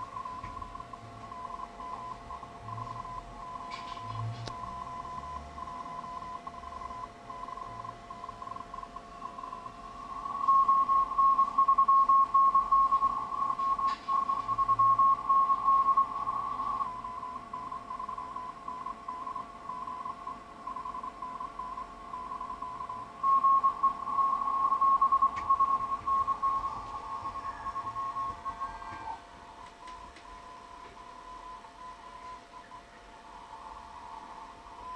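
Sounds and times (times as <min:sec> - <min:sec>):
faint steady carrier tones: 0:00.0 - 0:34.9
morse code beeps: 0:00.0 - 0:34.9
radio band noise: 0:00.0 - 0:34.9.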